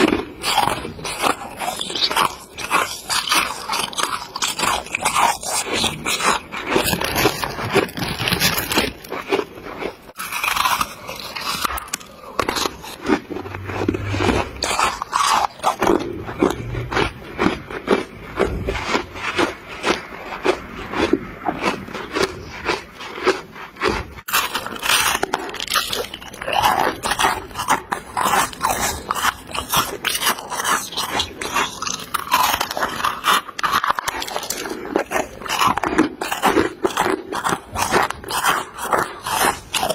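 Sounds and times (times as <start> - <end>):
person crunching frost: 0.0 - 39.9.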